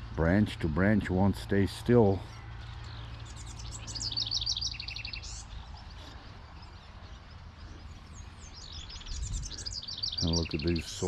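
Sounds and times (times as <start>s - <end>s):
small songbird singing: 0.0s - 11.0s.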